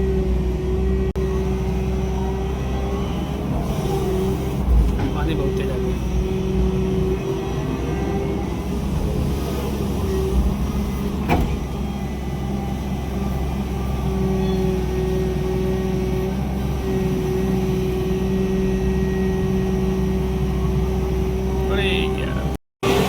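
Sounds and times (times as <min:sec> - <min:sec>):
excavator diesel engine rumbling: 0:00.0 - 0:23.0.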